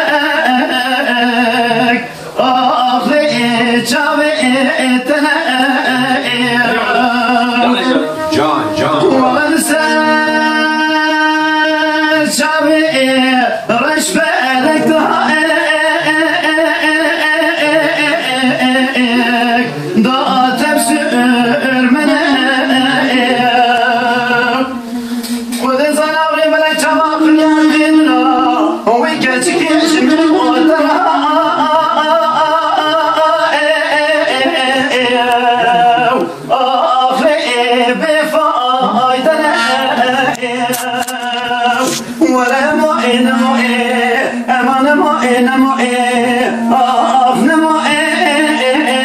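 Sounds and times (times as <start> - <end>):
man singing unaccompanied: 0.0 - 49.0.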